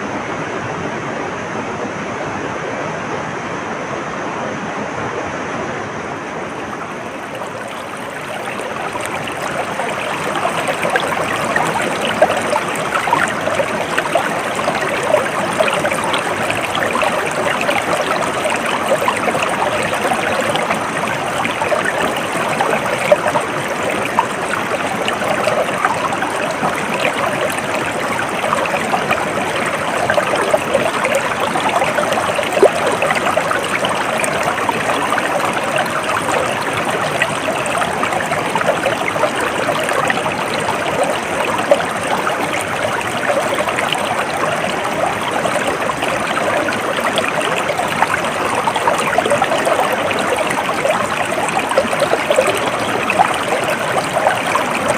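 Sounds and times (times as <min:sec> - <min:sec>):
stream water babbling: 0:00.0 - 0:54.9.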